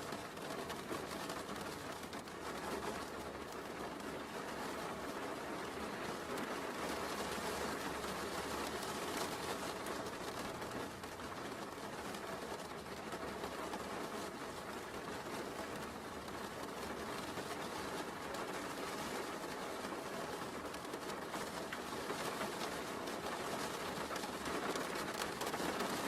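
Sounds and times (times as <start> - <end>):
raindrops ticking: 0.0 - 26.0
steady rain hiss: 0.0 - 26.0.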